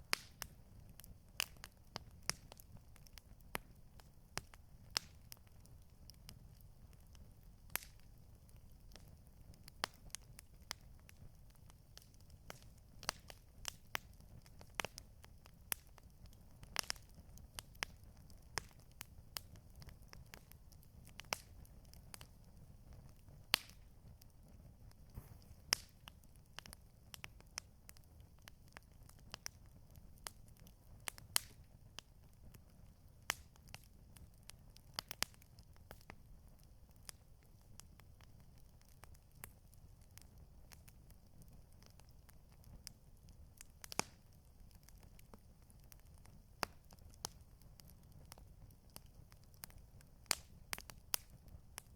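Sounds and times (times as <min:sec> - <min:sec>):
campfire crackling: 0:00.0 - 0:51.9
low fire rumble: 0:00.0 - 0:51.9.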